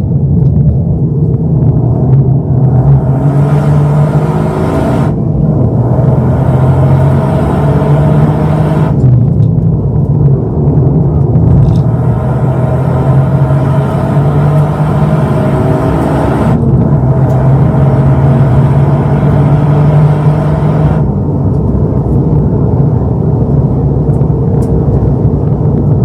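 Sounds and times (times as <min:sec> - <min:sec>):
car engine running: 0:00.0 - 0:26.0
road and wind noise: 0:00.0 - 0:26.0.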